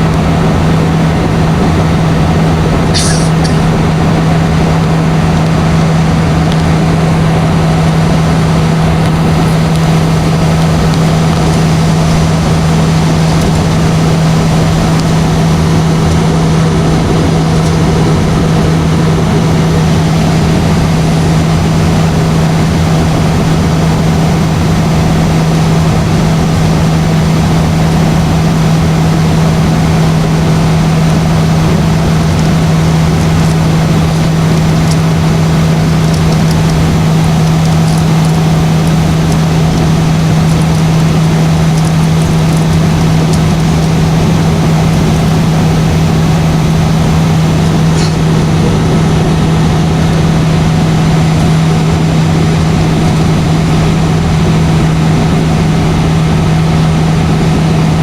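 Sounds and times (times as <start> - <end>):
airliner cabin drone: 0.0 - 58.0
low hum: 0.0 - 58.0.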